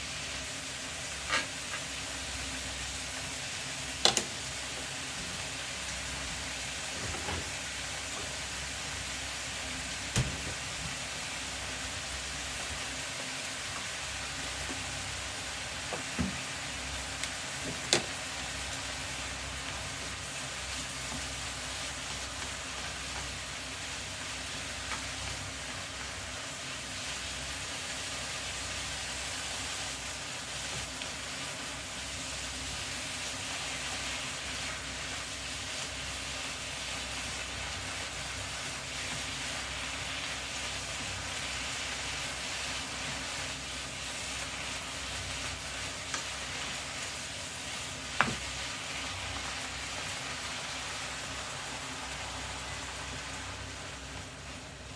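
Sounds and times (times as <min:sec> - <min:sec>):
mushrooms sizzling in a pan: 0:00.0 - 0:54.9.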